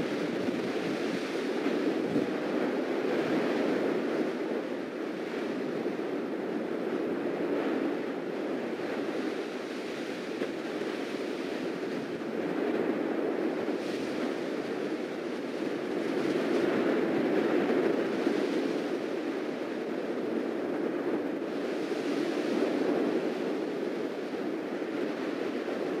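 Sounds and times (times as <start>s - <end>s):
lava lake roaring: 0.0s - 26.0s.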